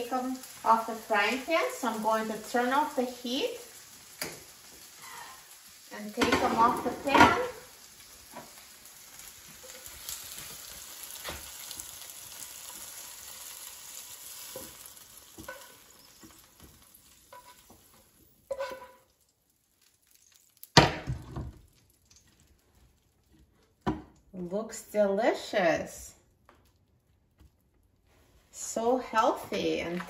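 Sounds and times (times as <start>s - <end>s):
beans sizzling in frying pan: 0.0s - 26.7s, 27.3s - 30.0s.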